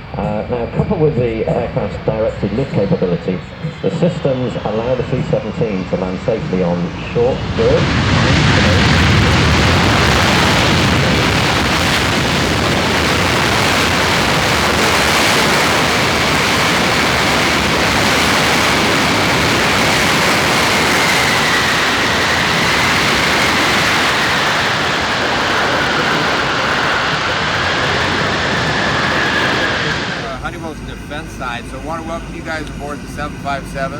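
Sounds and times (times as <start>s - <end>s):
jet engine whine: 0.0s - 33.9s
jet engines rushing: 0.0s - 33.9s.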